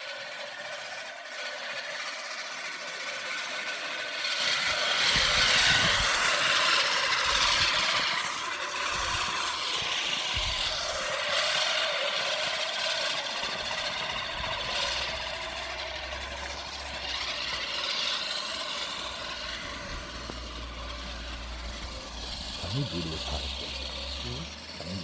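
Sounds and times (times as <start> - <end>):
lawn mower running: 0.0 - 25.0.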